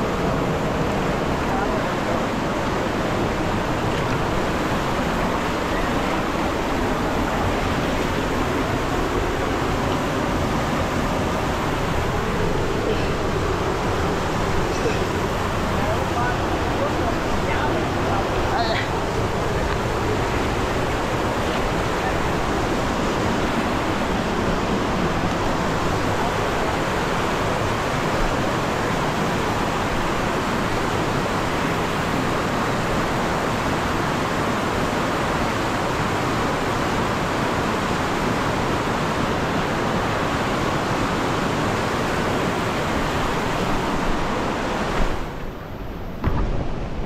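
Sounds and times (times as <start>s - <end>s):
river rapids rushing over boulders: 0.0s - 47.0s.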